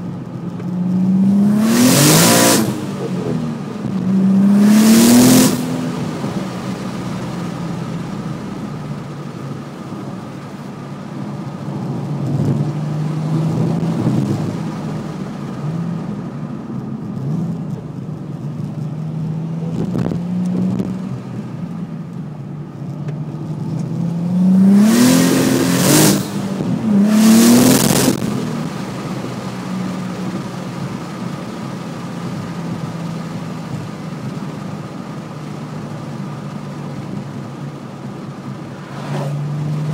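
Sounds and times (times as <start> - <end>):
car engine idling with revs: 0.0 - 39.9.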